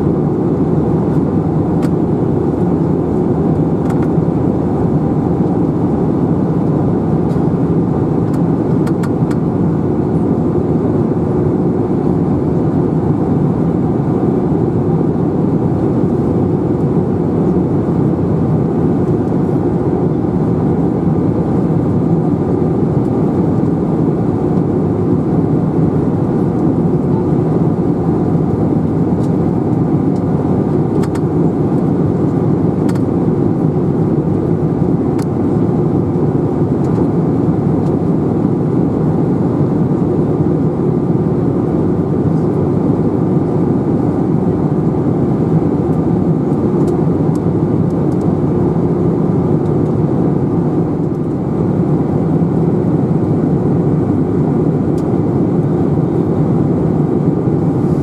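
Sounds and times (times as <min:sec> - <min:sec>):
jet engines droning: 0:00.0 - 0:58.0
rushing airflow: 0:00.0 - 0:58.0.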